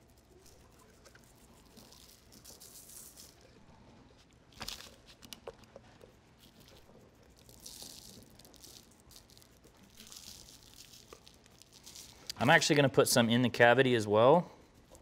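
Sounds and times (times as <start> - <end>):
dry rub pattering on chicken: 0.0 - 3.6, 4.2 - 12.8, 14.6 - 15.0.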